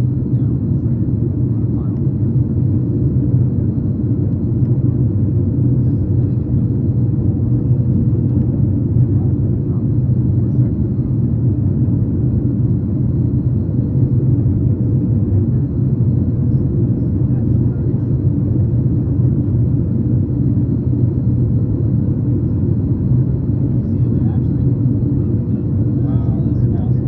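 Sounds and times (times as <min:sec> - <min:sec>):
airplane cabin rumble: 0:00.0 - 0:27.0.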